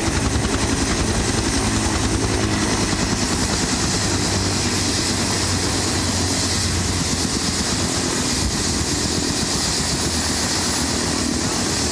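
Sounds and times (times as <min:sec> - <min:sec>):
helicopter engine and rotor: 0:00.0 - 0:11.9.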